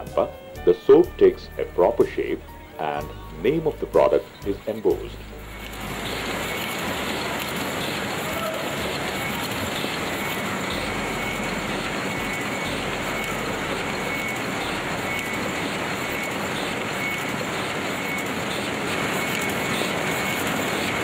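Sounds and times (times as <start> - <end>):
stamping machine running: 3.8 - 21.0.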